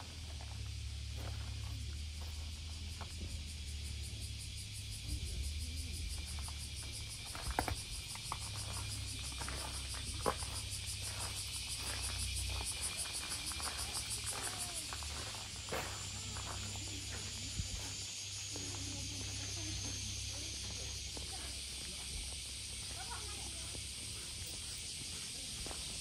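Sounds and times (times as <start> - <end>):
cicadas buzzing: 0.0 - 26.0.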